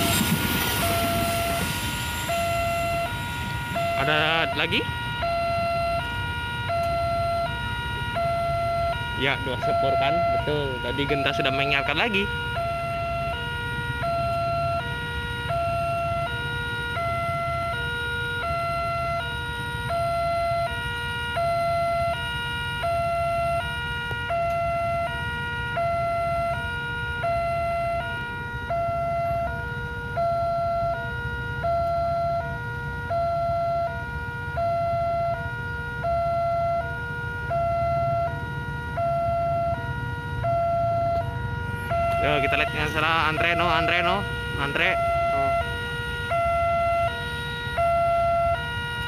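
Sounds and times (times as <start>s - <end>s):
level crossing two-tone alarm: 0.0s - 49.0s.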